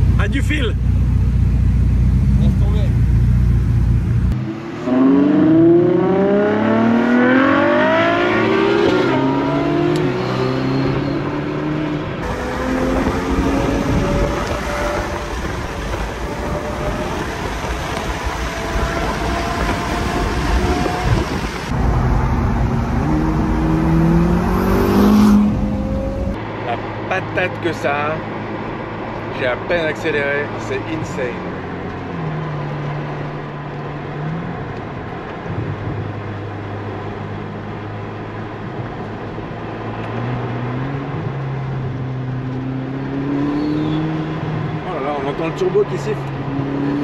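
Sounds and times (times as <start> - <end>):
car engines accelerating: 0.0 - 47.0.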